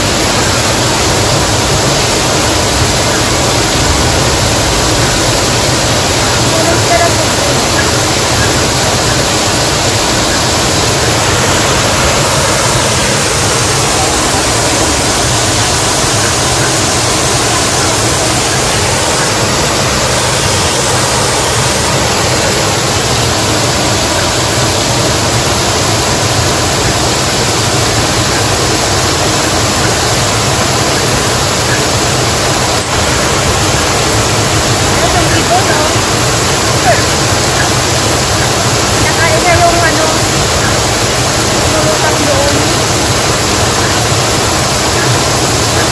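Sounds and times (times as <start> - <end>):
waterfall pouring into pond: 0.0 - 45.9.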